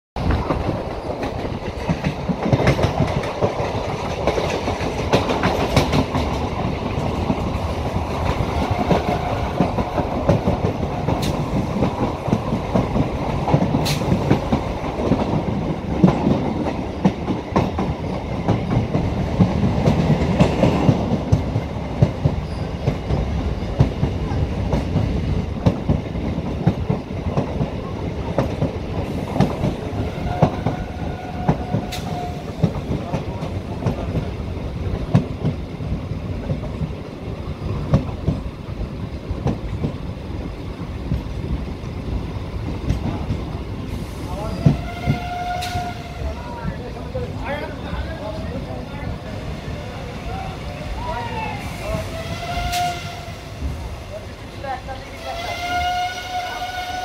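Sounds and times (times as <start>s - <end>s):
train coach rumble: 0.2s - 57.0s.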